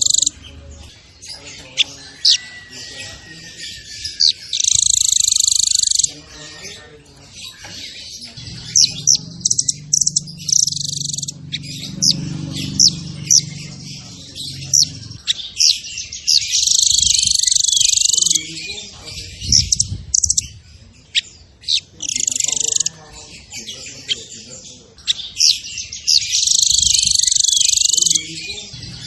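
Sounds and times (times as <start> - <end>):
songbird singing trills: 0.0 - 29.0.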